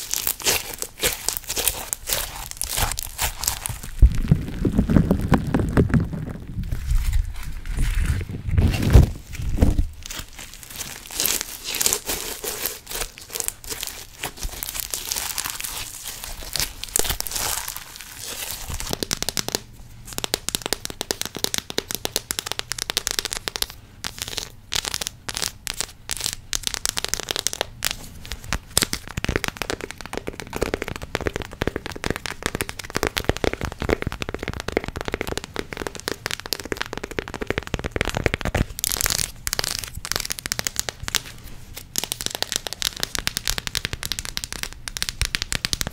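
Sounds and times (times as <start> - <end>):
chocolate wrapper crinkling: 0.0 - 45.9
slime squishing and crackling: 0.0 - 45.9.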